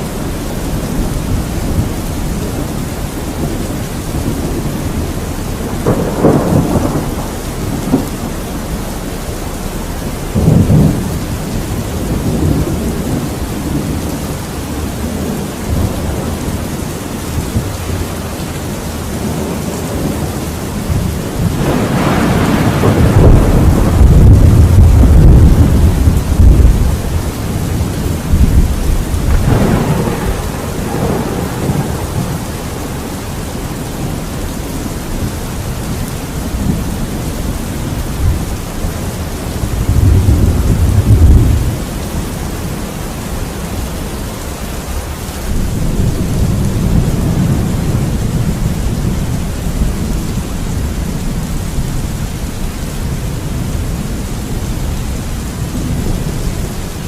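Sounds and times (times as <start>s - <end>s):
steady rain: 0.0s - 57.0s
thunder rumbling: 0.0s - 57.0s.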